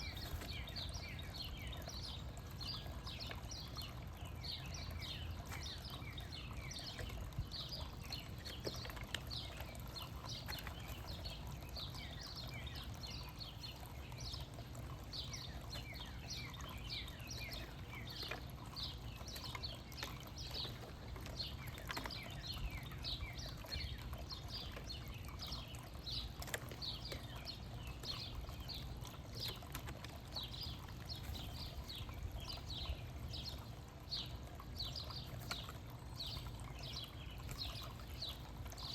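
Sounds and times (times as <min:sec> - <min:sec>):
flock of small birds chirping: 0:00.0 - 0:38.9.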